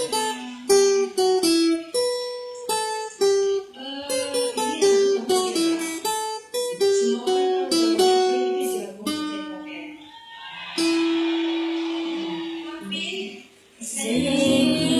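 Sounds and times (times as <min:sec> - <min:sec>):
acoustic guitar picking melody: 0:00.0 - 0:10.0, 0:10.8 - 0:12.6, 0:14.0 - 0:14.9.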